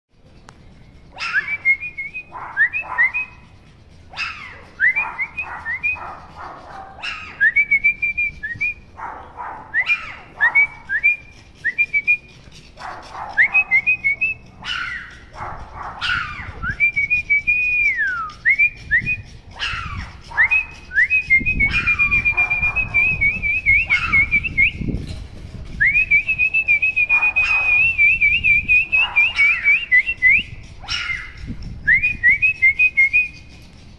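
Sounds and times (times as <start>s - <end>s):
puppies whining: 0.2s - 33.9s.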